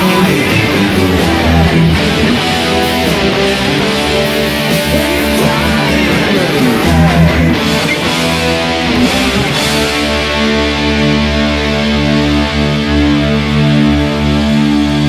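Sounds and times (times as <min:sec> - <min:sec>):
distorted electric guitar lead: 0:00.0 - 0:15.0
rock backing track: 0:00.0 - 0:15.0.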